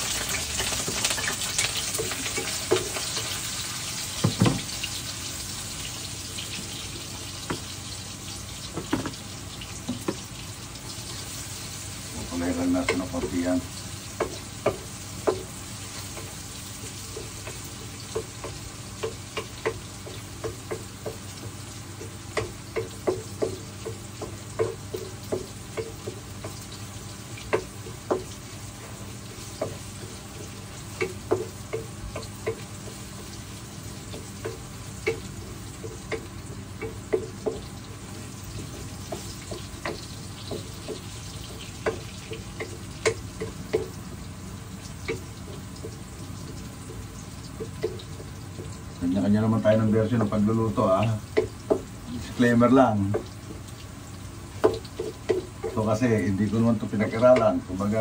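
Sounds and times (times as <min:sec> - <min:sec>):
food sizzling in oil: 0:00.0 - 0:58.0.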